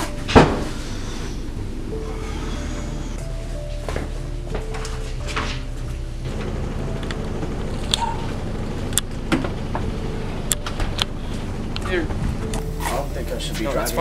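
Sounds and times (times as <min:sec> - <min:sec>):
low steady hum: 0:00.0 - 0:14.0
music: 0:00.0 - 0:14.0.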